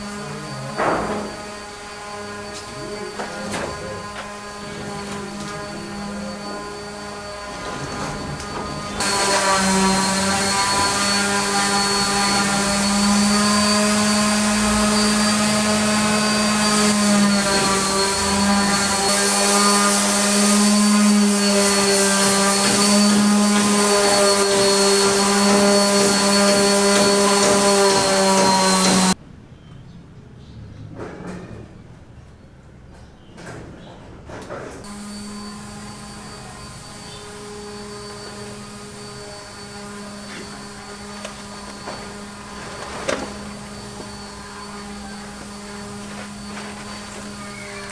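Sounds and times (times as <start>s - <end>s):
electric motor whining hum: 0.0s - 29.2s, 34.9s - 47.9s.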